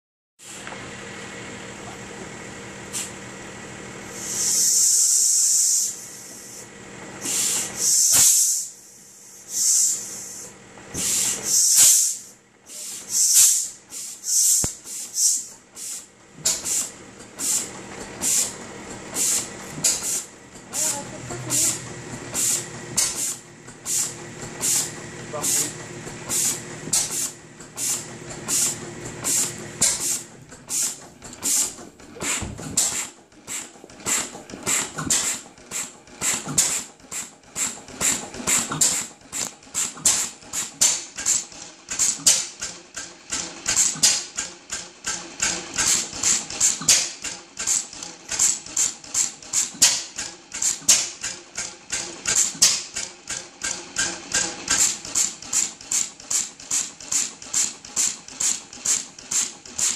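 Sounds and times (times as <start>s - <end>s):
old engine firing beats: 9.4s - 59.9s.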